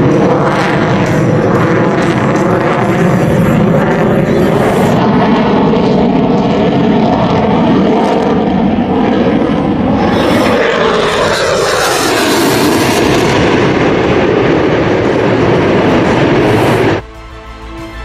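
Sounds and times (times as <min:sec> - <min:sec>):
loud jet engine noise: 0:00.0 - 0:17.5.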